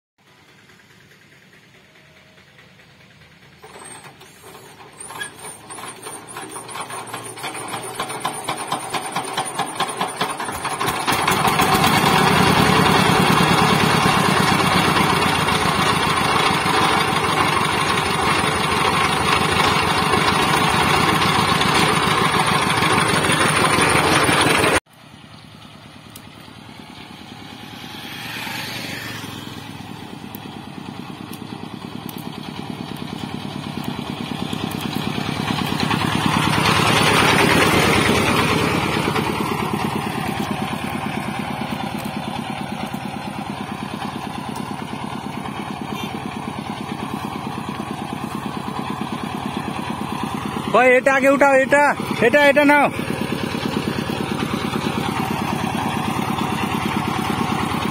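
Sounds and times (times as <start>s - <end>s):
diesel engine starting and running: 0.2s - 57.9s
distant engine running: 0.2s - 57.9s.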